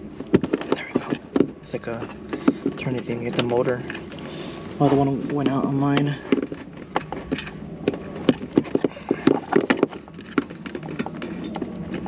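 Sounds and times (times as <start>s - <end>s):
clicks and knocks of car parts: 0.0s - 12.0s.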